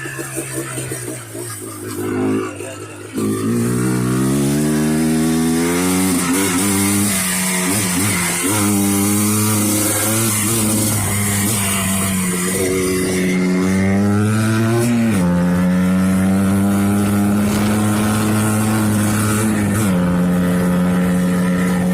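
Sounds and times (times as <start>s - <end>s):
two-stroke engine revving: 0.0s - 21.9s.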